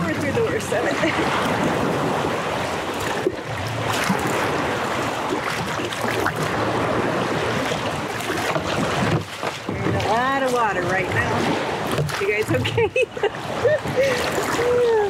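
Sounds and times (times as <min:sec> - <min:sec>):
small waves breaking: 0:00.0 - 0:15.0
water splashes: 0:00.0 - 0:15.0.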